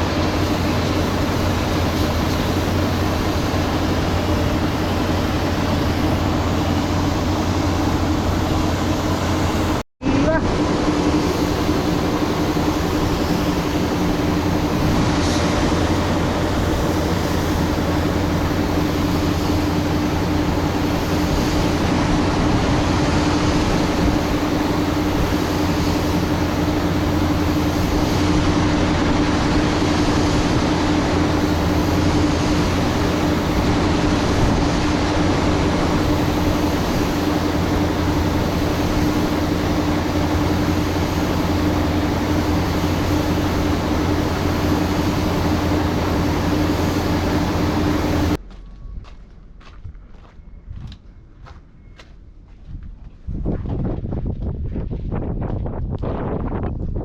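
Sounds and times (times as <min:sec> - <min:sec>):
machine humming with hiss: 0:00.0 - 0:48.4.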